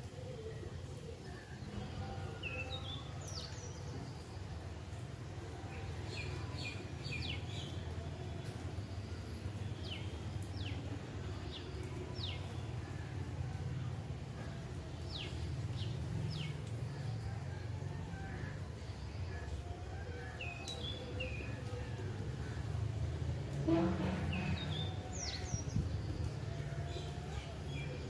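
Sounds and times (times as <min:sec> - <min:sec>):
wind and rain rumble: 0:00.0 - 0:28.0.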